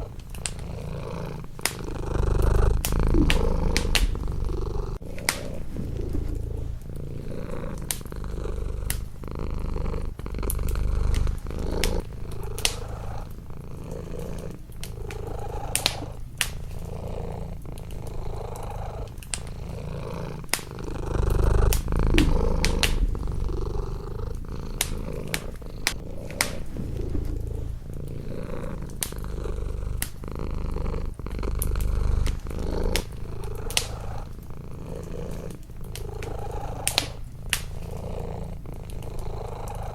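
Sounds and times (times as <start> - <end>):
cat purring: 0.0 - 39.9
wood fire crackling and popping: 0.0 - 39.9.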